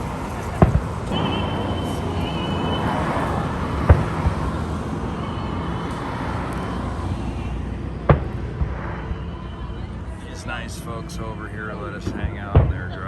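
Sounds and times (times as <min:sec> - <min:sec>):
fireworks booming: 0:00.0 - 0:13.0
outdoor background noise: 0:00.0 - 0:13.0
smaller firework report: 0:00.0 - 0:13.0.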